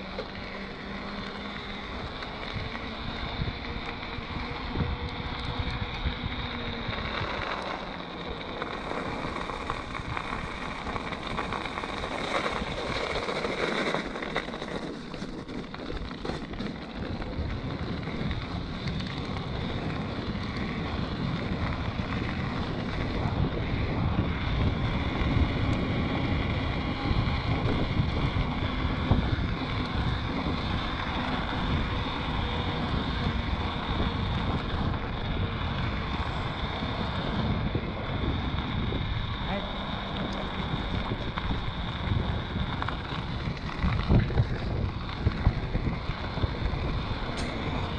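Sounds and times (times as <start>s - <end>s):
tyres rolling on wet asphalt: 0.0s - 47.9s
wind buffeting microphone: 0.0s - 47.9s.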